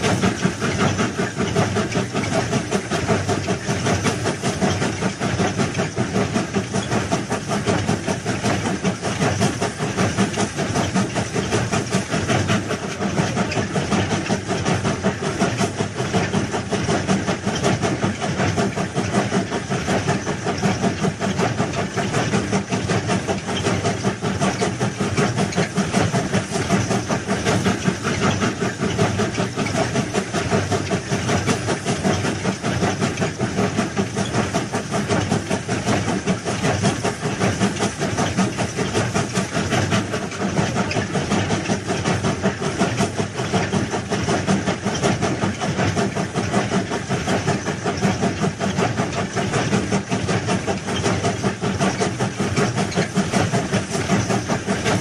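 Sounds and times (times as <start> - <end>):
crawler machine engine running: 0.0 - 55.0.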